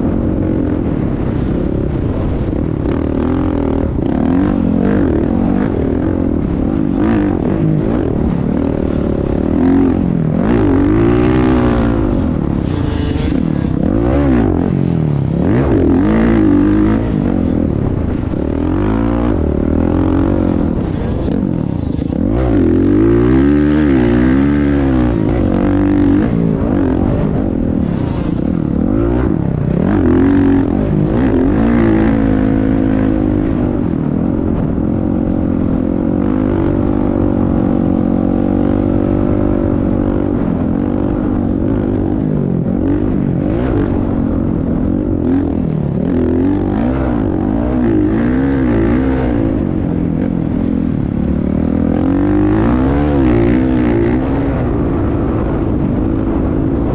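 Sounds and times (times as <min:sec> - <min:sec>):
motocross bike engine revving: 0:00.0 - 0:56.8.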